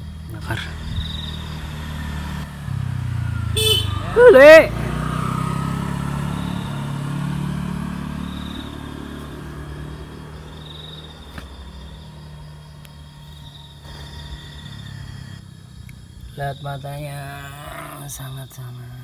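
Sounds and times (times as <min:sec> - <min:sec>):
passing vehicle engine: 0:00.0 - 0:19.0.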